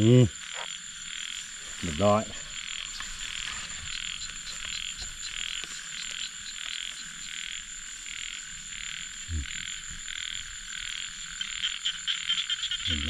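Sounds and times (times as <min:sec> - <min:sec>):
frogs calling in chorus: 0:00.0 - 0:13.0.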